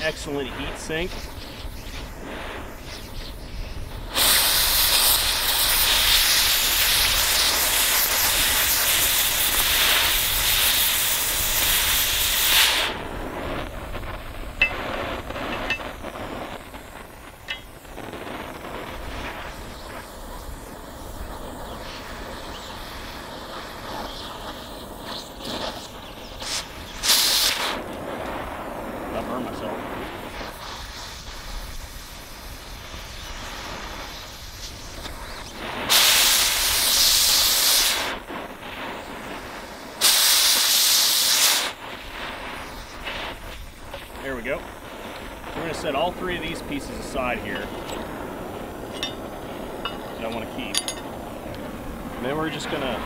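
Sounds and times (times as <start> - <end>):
cutting torch hissing: 0.0 - 53.0.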